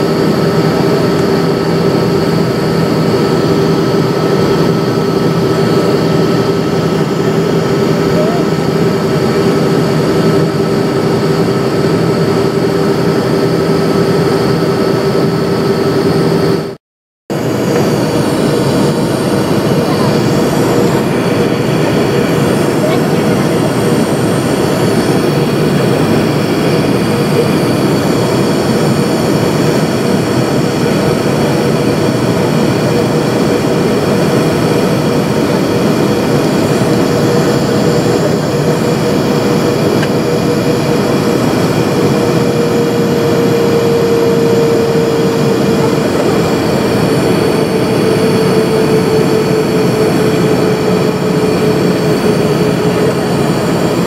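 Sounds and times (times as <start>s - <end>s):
jet engine cabin noise: 0.0s - 54.0s.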